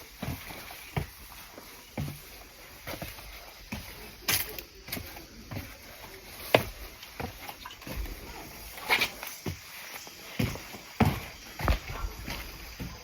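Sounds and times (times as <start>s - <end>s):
footsteps on trail: 0.0s - 13.0s.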